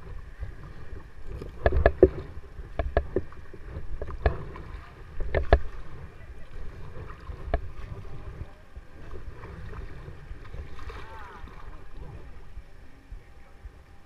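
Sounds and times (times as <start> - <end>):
paddle strokes in water: 0.0 - 13.0
low rumble: 0.0 - 14.0.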